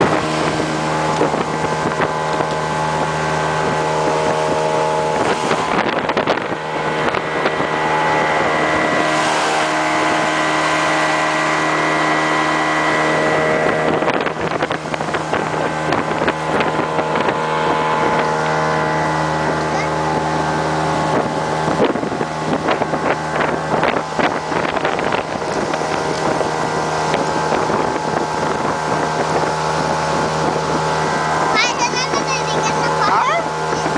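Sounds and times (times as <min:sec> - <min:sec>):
speedboat engine running: 0:00.0 - 0:33.9
water rushing: 0:00.0 - 0:33.9
wind on microphone: 0:00.0 - 0:33.9.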